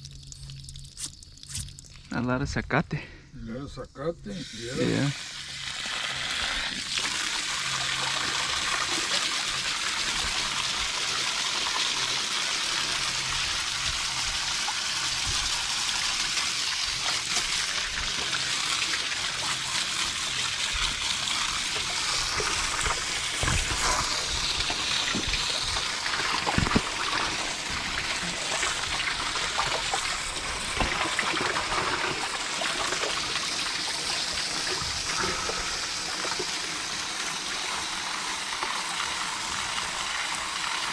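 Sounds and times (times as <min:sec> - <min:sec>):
hose water spraying on metal coil: 0:04.4 - 0:38.8.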